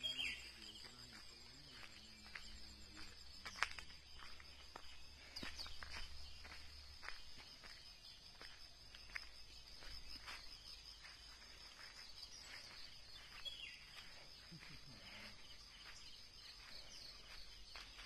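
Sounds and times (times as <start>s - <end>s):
faint bird chirps: 0.0s - 18.0s
high insect drone: 0.0s - 18.0s.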